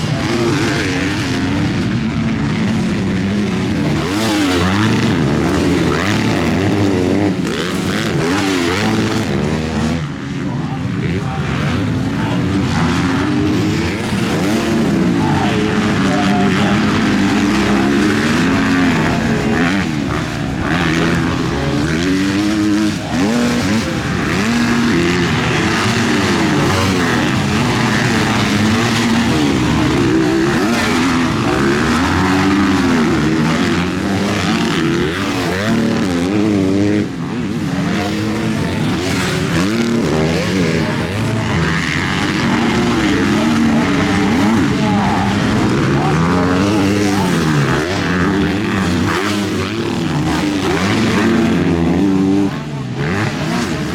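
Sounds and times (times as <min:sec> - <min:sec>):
motocross bikes revving: 0:00.0 - 0:53.9.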